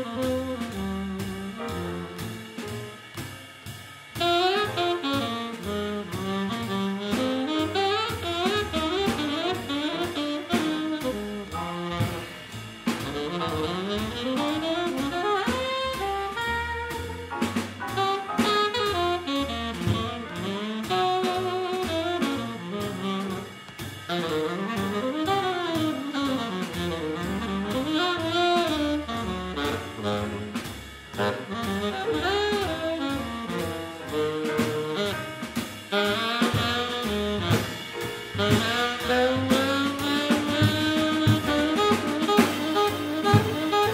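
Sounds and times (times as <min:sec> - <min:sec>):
alto saxophone melody: 0:00.0 - 0:03.2, 0:04.2 - 0:43.9
double bass: 0:00.0 - 0:43.9
drum kit cymbals: 0:00.0 - 0:43.9
piano: 0:00.0 - 0:43.9.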